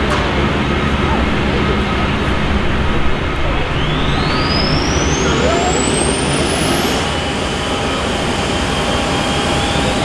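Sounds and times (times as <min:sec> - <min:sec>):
gas turbine whine: 0:00.0 - 0:10.0
low engine rumble: 0:00.0 - 0:10.0.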